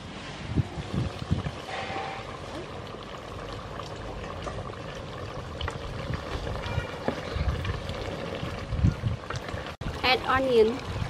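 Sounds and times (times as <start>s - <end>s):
curry bubbling in a pot: 0.5s - 11.0s.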